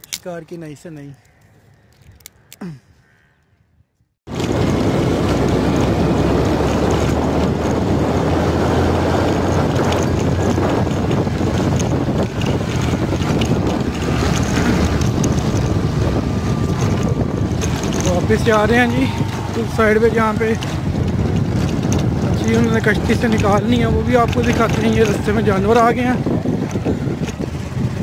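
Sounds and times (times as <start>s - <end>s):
vehicle running noise: 4.3s - 28.0s
wind rumble on microphone: 4.3s - 28.0s.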